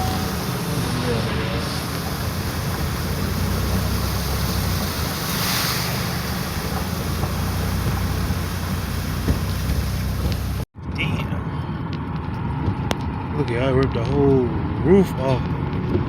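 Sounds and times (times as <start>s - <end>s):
car low rumble: 0.0s - 16.0s.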